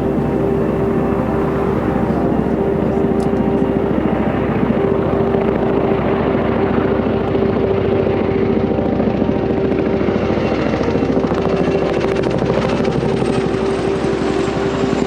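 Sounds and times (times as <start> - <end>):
helicopter engine tone: 0.0 - 15.0
helicopter rotor chop: 0.0 - 15.0.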